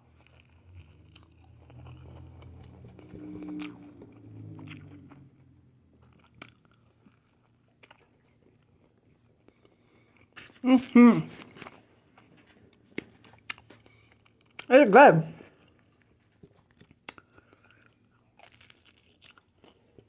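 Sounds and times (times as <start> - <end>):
chewing and biting food: 0.0 - 10.6, 11.4 - 14.7, 15.5 - 20.0.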